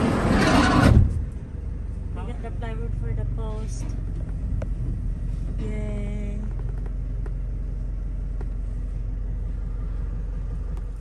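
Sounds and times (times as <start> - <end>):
van engine rumble inside cabin: 0.0 - 11.0.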